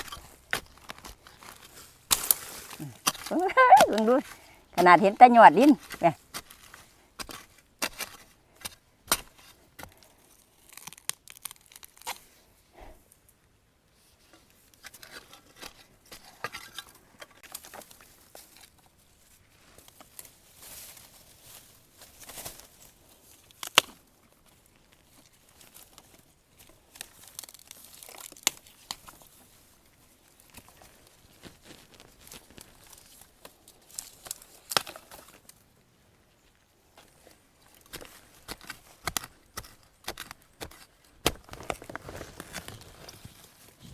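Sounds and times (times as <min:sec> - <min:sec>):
dry bamboo leaves rustling: 0:00.0 - 0:08.2, 0:10.0 - 0:12.4, 0:16.6 - 0:35.7, 0:36.9 - 0:43.9.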